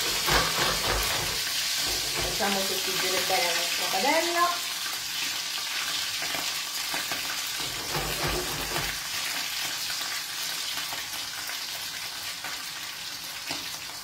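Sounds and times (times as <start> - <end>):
oil sizzling in a skillet: 0.0 - 14.0.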